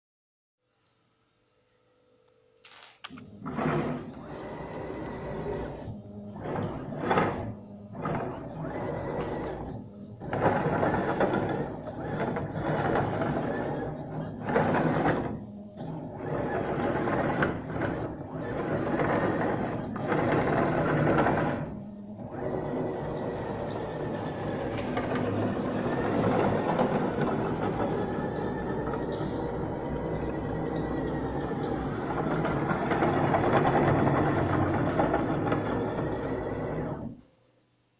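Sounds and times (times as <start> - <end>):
cnc machine motors running: 3.1 - 37.2.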